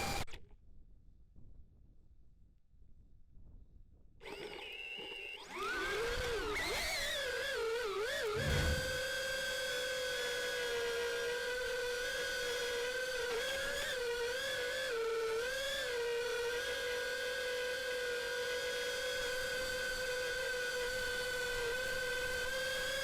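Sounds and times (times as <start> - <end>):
quadcopter motors whining: 4.2 - 23.0.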